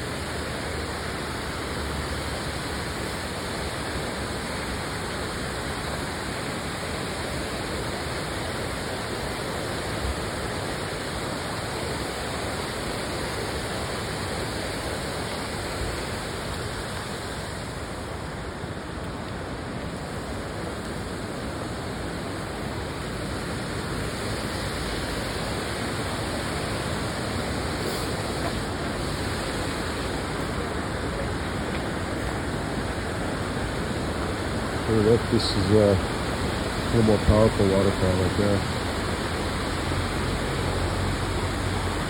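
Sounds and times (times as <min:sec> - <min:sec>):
waterfall and stream rushing: 0:00.0 - 0:42.0.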